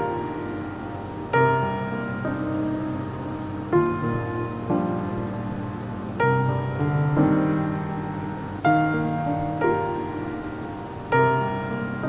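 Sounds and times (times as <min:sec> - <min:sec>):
gentle piano chords: 0:00.0 - 0:12.0.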